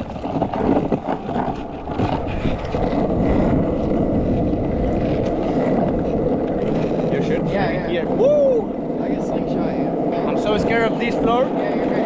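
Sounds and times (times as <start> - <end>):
small wheels rolling on pavement: 0.0 - 12.0
wind noise on microphone: 0.0 - 12.0.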